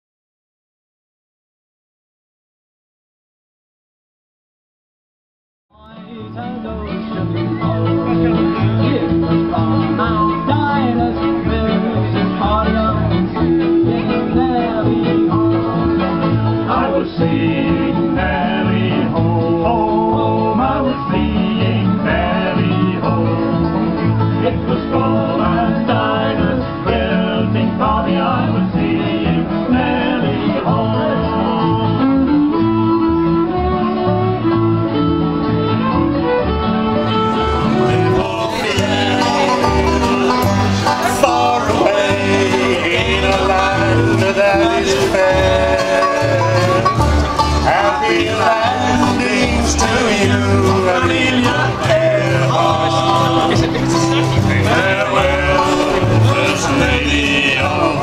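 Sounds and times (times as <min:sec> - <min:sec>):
bluegrass band instrumental: 0:05.8 - 0:58.0.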